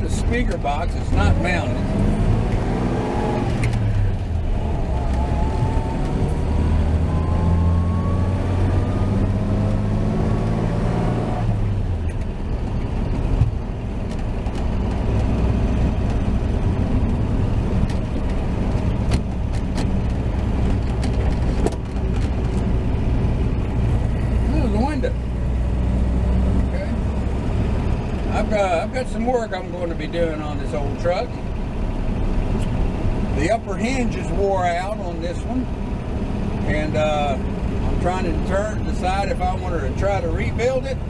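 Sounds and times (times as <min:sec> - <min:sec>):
truck engine accelerating: 0:00.0 - 0:41.0.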